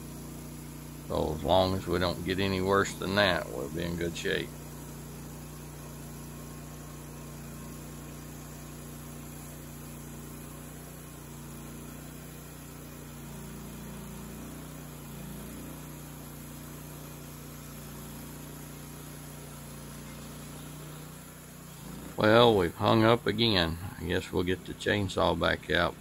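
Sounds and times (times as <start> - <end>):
band sawmill cutting log: 0.0 - 26.0.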